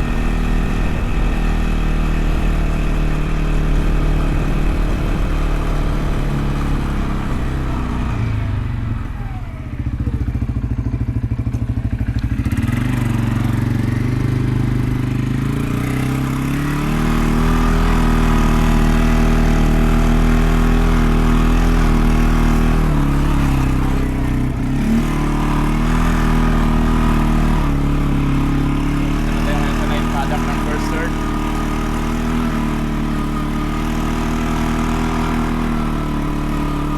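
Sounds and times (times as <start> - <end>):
small vehicle engine running: 0.0 - 36.9.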